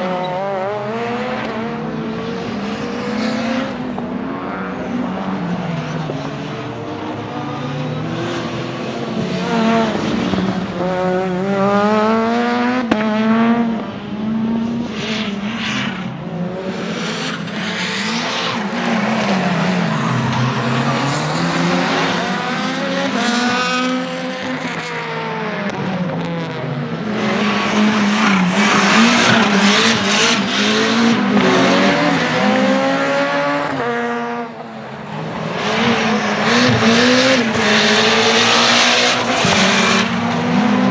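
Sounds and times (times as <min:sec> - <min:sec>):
race car engine revving: 0:00.2 - 0:34.6, 0:35.3 - 0:40.9.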